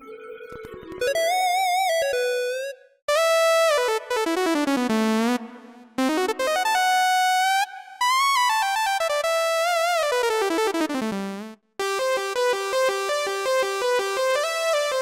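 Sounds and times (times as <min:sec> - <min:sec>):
keyboard lead melody: 0:00.0 - 0:15.0.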